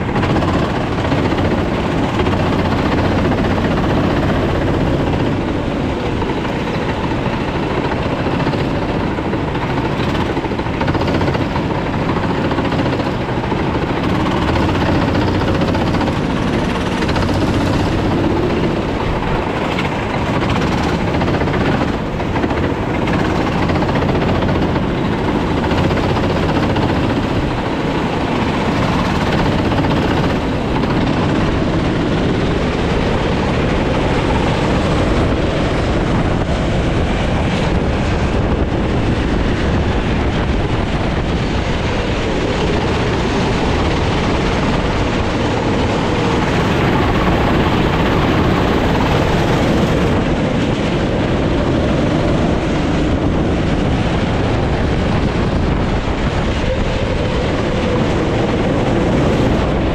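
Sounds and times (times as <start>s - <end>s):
kart engine running hard: 0.0s - 59.9s
other kart engines nearby: 0.0s - 59.9s.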